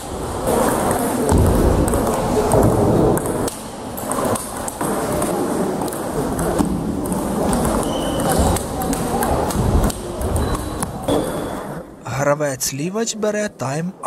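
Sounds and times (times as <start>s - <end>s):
large hall background noise: 0.0s - 14.0s.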